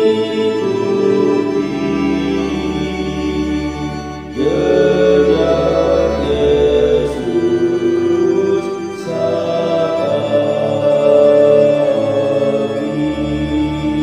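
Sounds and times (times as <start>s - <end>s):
choir singing a hymn: 0.0s - 14.0s
organ accompaniment: 0.0s - 14.0s.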